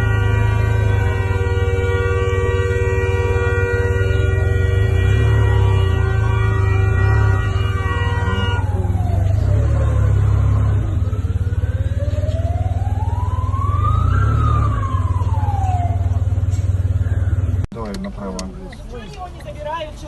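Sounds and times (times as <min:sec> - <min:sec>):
emergency siren wailing: 0:00.0 - 0:17.6.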